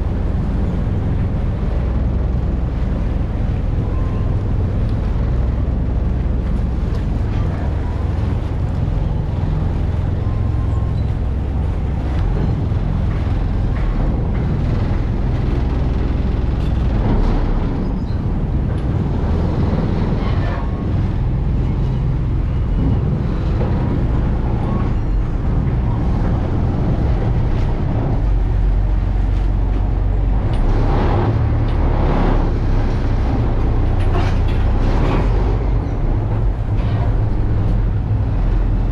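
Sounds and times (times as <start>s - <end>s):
boat engine rumbling: 0.0s - 38.9s
water noise: 0.0s - 38.9s.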